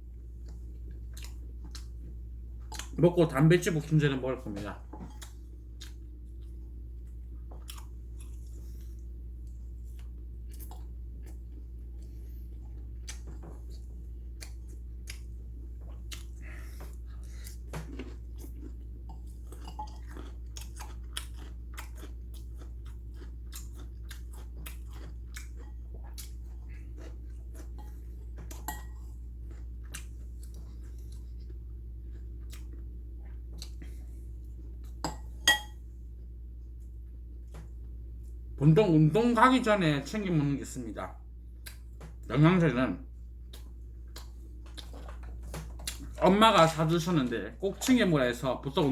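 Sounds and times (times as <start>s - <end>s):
person chewing food: 0.0s - 3.0s, 4.5s - 38.5s, 41.5s - 42.3s, 43.2s - 46.7s.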